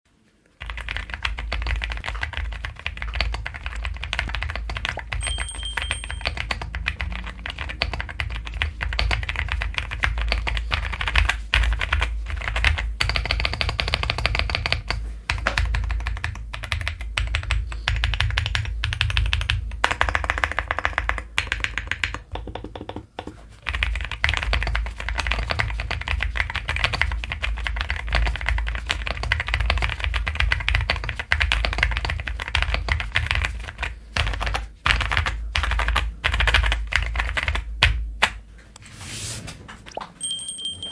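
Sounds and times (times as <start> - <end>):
mechanical keyboard typing: 0.6 - 38.0.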